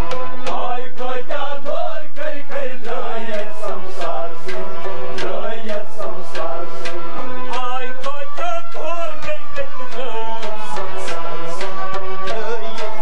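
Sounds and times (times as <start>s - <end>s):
rubab melody: 0.0s - 13.0s.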